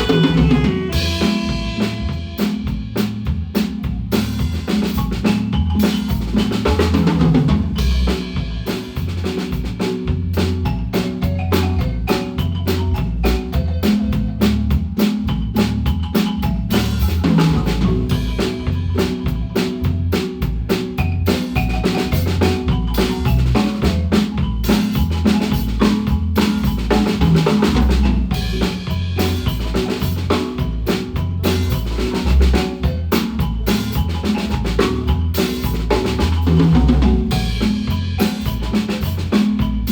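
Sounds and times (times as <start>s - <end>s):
drum kit playing: 0.0s - 39.9s
marimba notes: 0.0s - 39.9s.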